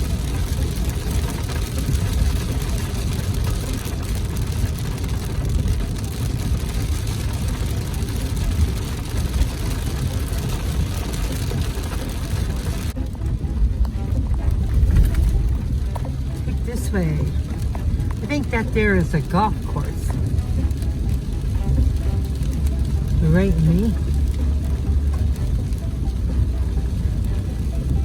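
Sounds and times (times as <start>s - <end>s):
engine and tyres rumbling: 0.0s - 28.0s
tyres hissing on wet road: 0.0s - 28.0s.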